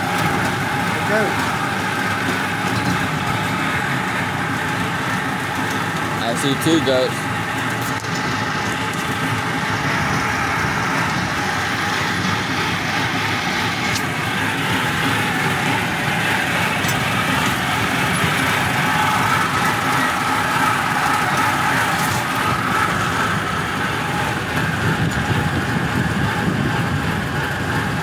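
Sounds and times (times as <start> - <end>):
faint steady whine: 0.0 - 28.0
miniature train rumbling: 0.0 - 28.0.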